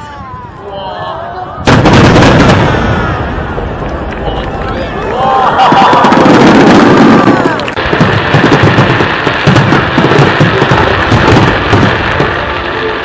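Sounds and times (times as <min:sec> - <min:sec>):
fireworks bangs and crackling: 0:01.6 - 0:13.0.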